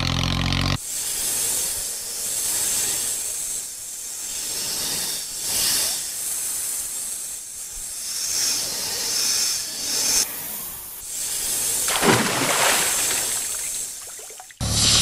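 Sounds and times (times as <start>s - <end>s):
snake hissing: 0.8s - 15.0s.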